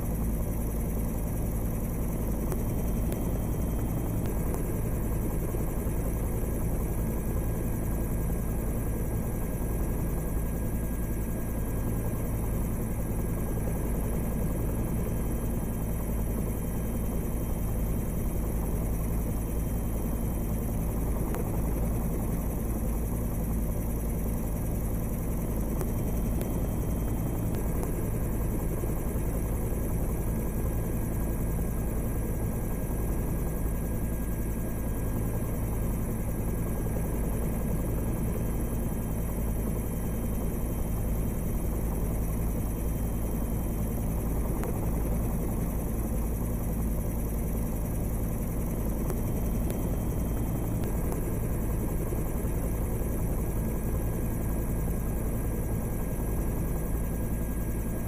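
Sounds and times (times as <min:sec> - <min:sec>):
aircraft engine and rotor drone: 0:00.0 - 0:58.0.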